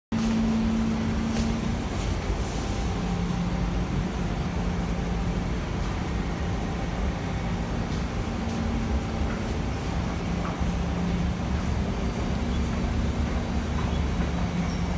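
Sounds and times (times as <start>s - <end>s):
metro train humming: 0.1s - 14.9s.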